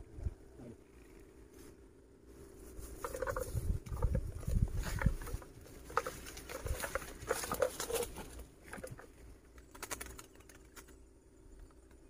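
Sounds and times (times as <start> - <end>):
branches and twigs rustling: 0.0 - 12.0.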